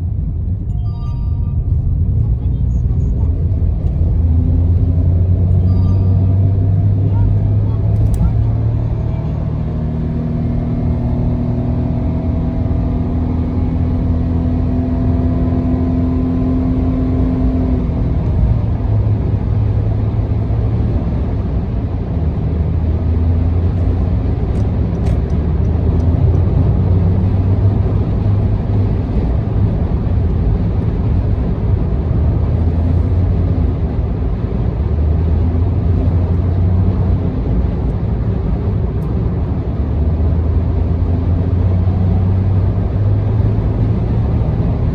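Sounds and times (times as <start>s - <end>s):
engine and tyre rumble in car: 0.0s - 44.9s.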